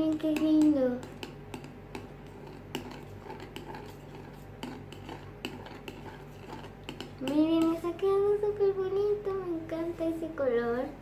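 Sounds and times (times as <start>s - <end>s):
spoon stirring slime in bowl: 0.0s - 10.3s.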